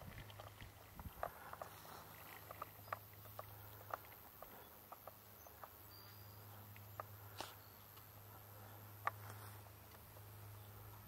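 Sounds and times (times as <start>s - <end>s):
low steady hum: 0.0s - 11.0s
soft irregular ticks: 0.0s - 11.0s.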